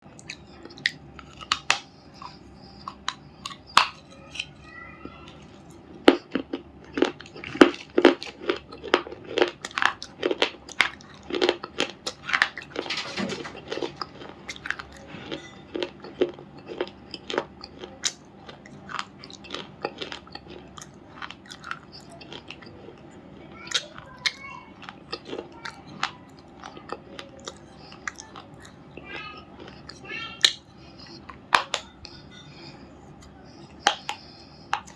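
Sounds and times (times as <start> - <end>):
crunchy stone being chewed: 0.1 - 4.6, 5.3 - 34.9.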